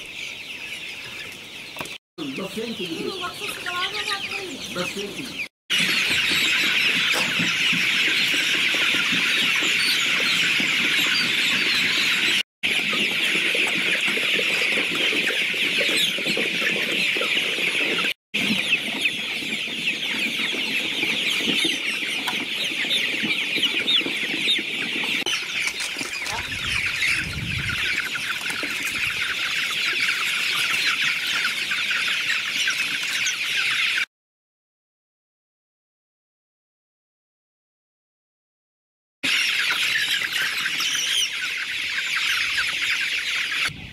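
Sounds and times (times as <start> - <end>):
chicks peeping: 0.0 - 34.1, 39.2 - 43.9.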